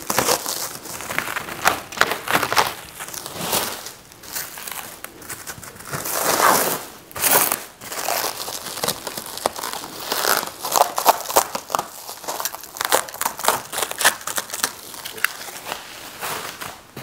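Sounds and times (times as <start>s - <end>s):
plastic wrap crinkling: 0.0s - 17.0s.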